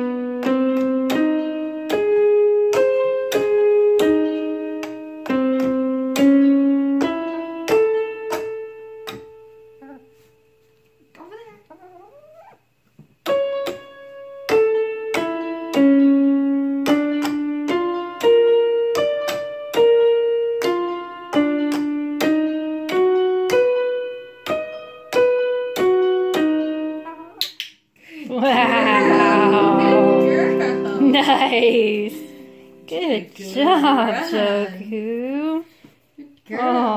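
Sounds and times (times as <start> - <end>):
electronic keyboard piano notes: 0.0 - 10.0, 13.3 - 27.1, 28.5 - 34.7.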